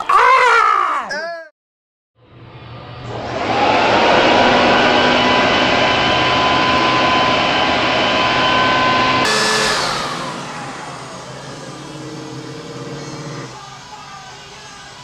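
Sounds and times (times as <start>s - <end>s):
leaf blower air rush and whine: 2.3s - 15.0s.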